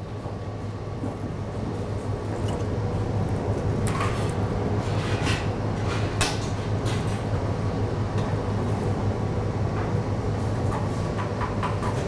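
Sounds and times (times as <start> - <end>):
kitchen machinery humming: 0.0 - 12.0.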